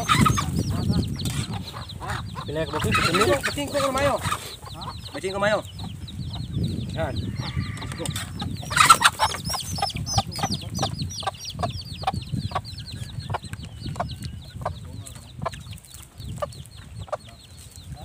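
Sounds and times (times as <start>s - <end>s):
fast high chirping: 0.0s - 17.8s
chicken clucking: 0.0s - 18.0s.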